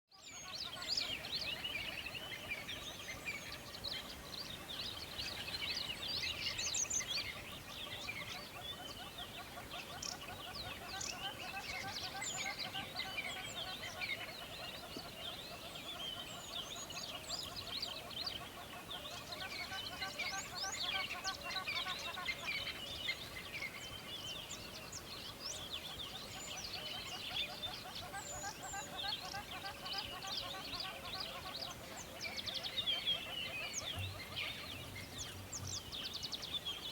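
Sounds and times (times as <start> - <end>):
small birds chirping: 0.1 - 36.9.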